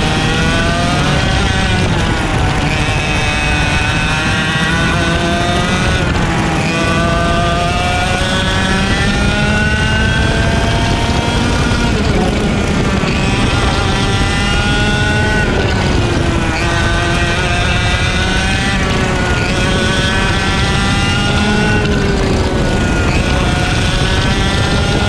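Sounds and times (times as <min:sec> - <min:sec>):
kart engine revving: 0:00.0 - 0:25.0.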